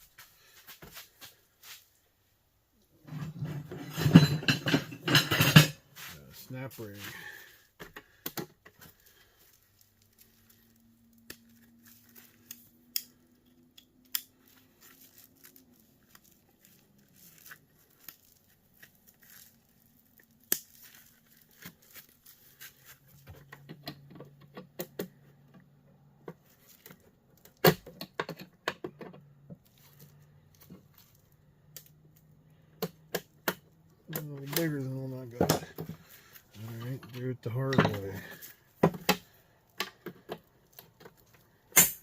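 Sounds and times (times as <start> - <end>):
hand tools and parts clinking: 3.0 - 42.0.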